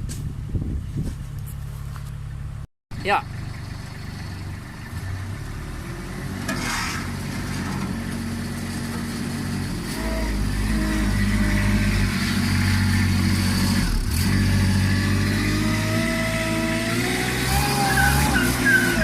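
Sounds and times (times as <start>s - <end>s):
backhoe engine running: 0.1s - 19.0s.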